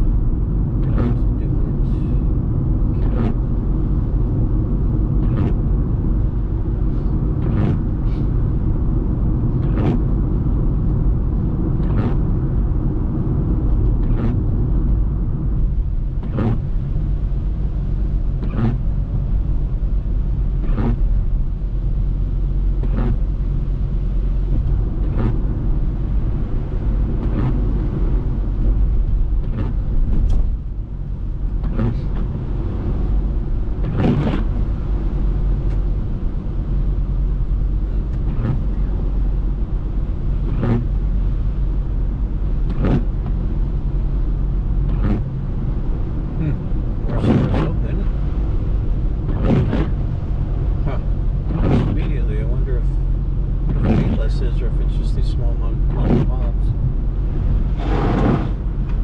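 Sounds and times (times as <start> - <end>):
car driving on wet road: 0.0 - 59.0
windshield wipers sweeping: 0.8 - 2.2, 2.8 - 12.5, 13.6 - 14.9, 15.6 - 59.0.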